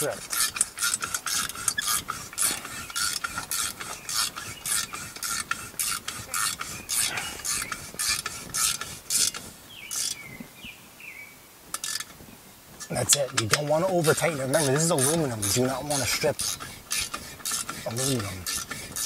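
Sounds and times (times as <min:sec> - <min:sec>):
ratchet wrench strokes: 0:00.0 - 0:10.2, 0:11.8 - 0:12.1, 0:12.8 - 0:19.0.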